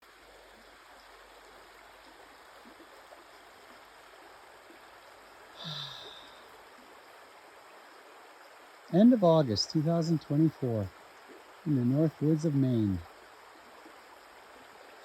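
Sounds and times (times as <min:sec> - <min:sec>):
brook running over rocks: 0:00.0 - 0:15.0.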